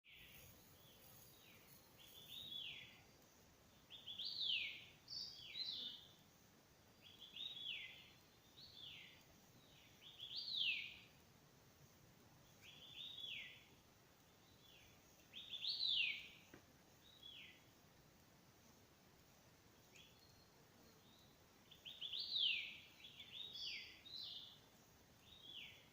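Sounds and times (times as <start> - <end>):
faint steady hiss: 0.0 - 25.9.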